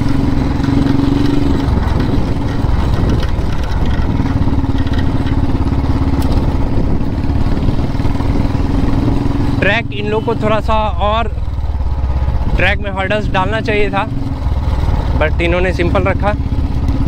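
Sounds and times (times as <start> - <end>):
motorcycle engine at low speed: 0.0 - 17.0.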